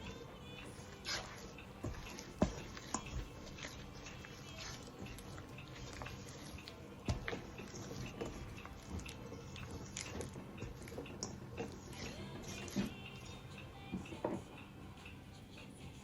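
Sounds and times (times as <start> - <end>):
dough squelching by hand: 0.0 - 14.5.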